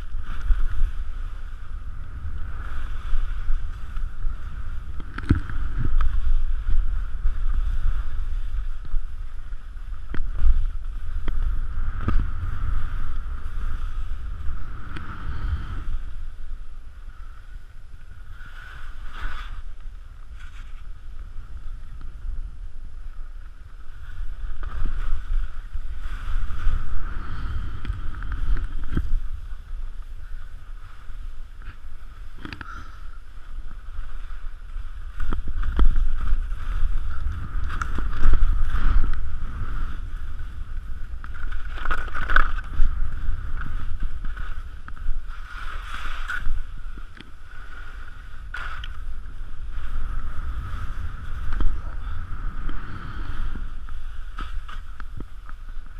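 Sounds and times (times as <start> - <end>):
skis scraping over snow: 0.0 - 55.9
wind buffeting microphone: 0.0 - 55.9.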